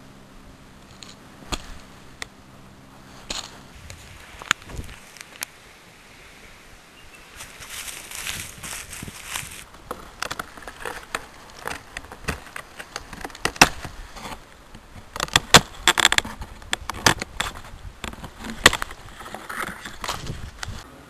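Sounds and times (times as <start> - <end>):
faint rustle: 0.7 - 20.9.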